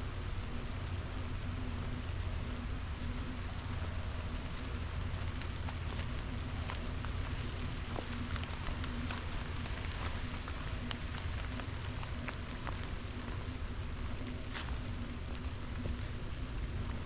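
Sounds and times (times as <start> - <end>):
light rain on leaves: 0.0 - 17.0.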